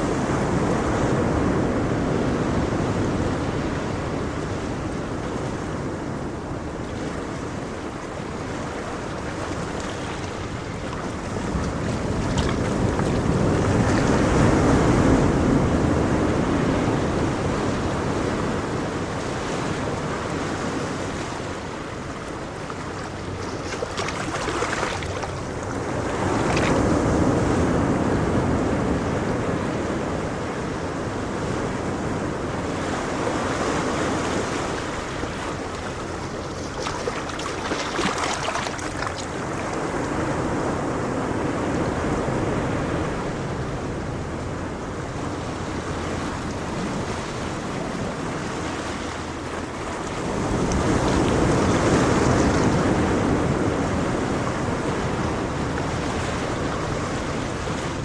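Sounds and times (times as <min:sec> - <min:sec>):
ocean waves breaking: 0:00.0 - 0:58.0
wind: 0:00.0 - 0:58.0.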